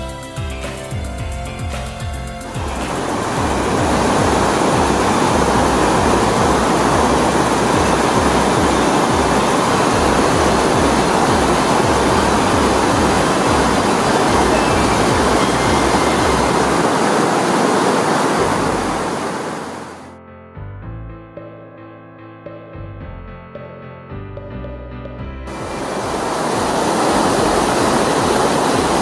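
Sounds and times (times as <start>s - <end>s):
background music beat: 0.0s - 16.8s, 20.8s - 29.0s
waterfall rushing: 0.0s - 20.1s, 25.5s - 29.0s.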